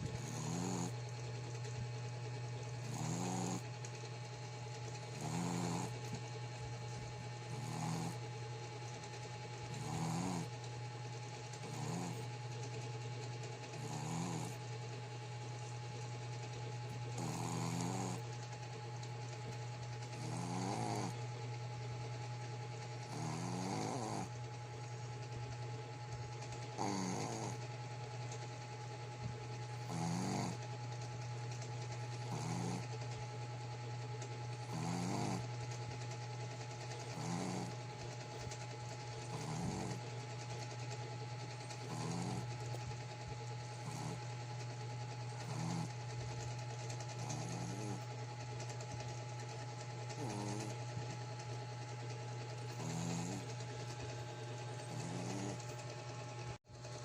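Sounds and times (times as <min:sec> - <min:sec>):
dog snoring: 0:00.0 - 0:01.1, 0:02.0 - 0:04.0, 0:04.8 - 0:12.8, 0:13.6 - 0:33.4, 0:34.2 - 0:56.5
constant low hum: 0:00.0 - 0:57.0.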